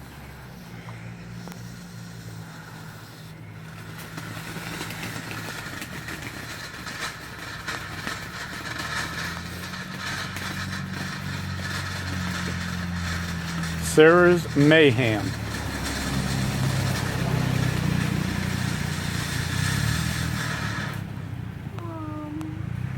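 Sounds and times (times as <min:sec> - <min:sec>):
firework hissing and crackling: 0:00.0 - 0:22.8
steady low hum: 0:00.0 - 0:22.9.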